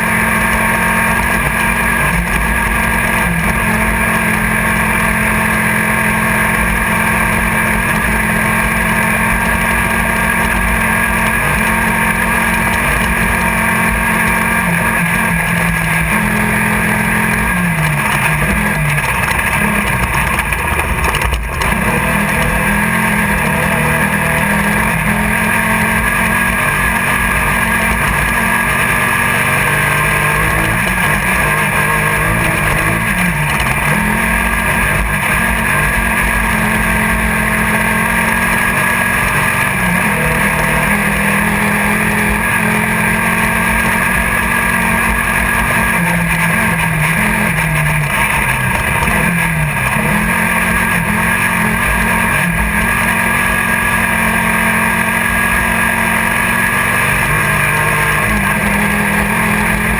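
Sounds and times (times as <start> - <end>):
buggy engine running hard: 0.0 - 59.9.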